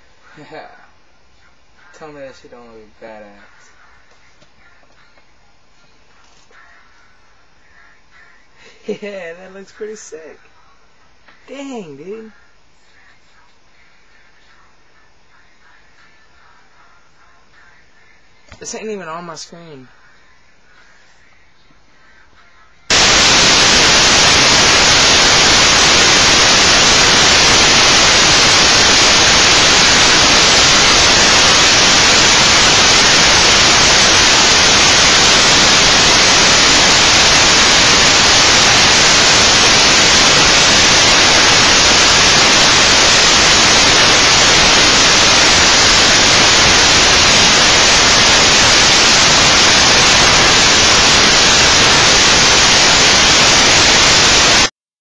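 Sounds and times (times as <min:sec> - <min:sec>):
static hiss: 0:00.0 - 0:54.8.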